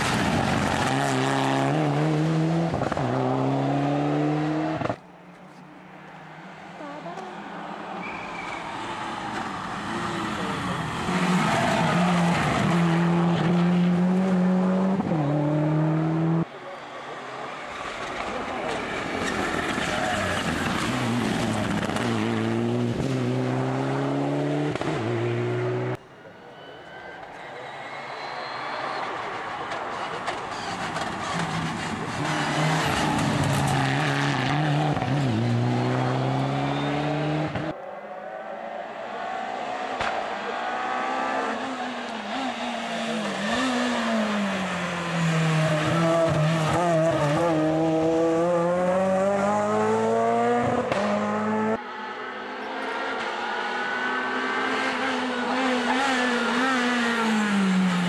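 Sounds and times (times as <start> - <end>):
rally car engines revving: 0.0 - 5.0, 6.6 - 16.6, 17.6 - 26.0, 29.7 - 37.8, 38.9 - 58.0.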